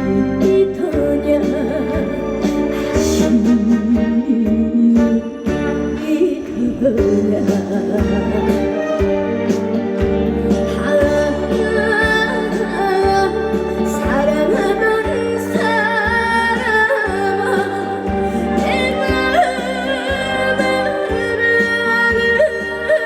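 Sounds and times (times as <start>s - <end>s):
woman singing with vibrato: 0.0s - 9.1s, 10.5s - 23.0s
backing track with steady beat: 0.0s - 23.0s.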